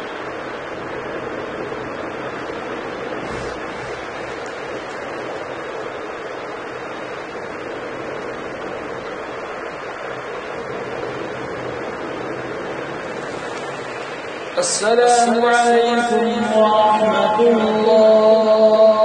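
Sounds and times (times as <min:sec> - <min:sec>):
background hiss: 0:00.0 - 0:19.0
faint low hum: 0:00.0 - 0:19.0.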